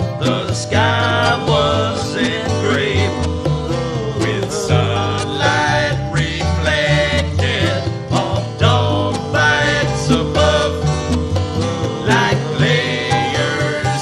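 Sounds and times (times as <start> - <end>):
country band music: 0.0 - 14.0.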